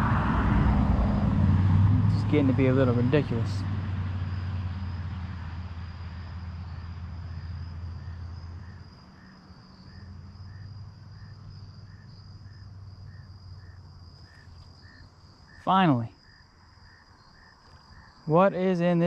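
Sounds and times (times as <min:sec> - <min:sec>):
road traffic rumble: 0:00.0 - 0:19.0
insects trilling: 0:02.2 - 0:19.0.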